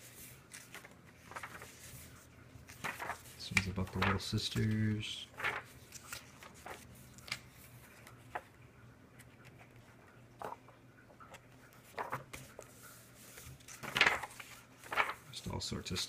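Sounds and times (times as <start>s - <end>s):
book pages turning: 0.0s - 16.0s.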